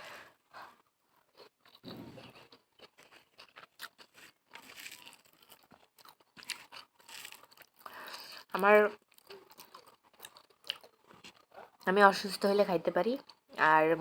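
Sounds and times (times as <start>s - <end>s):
person chewing food: 0.1s - 11.9s, 13.2s - 13.6s.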